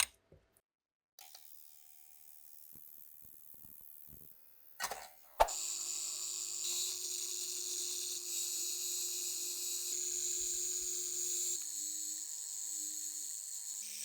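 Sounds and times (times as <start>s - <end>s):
small electric power tool running: 1.2s - 14.0s.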